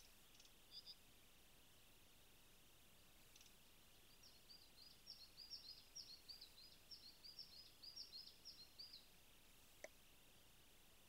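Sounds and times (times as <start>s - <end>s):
outdoor background hiss: 0.0s - 11.0s
songbird chirping: 0.0s - 11.0s.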